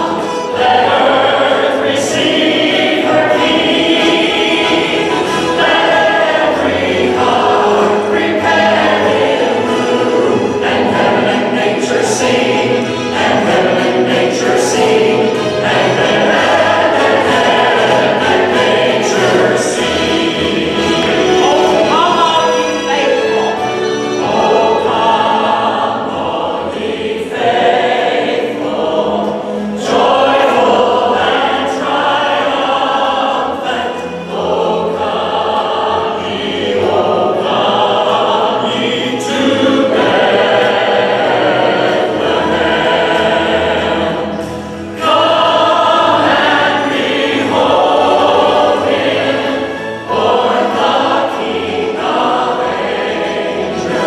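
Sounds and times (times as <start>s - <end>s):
women's group and congregation singing: 0.0s - 54.0s.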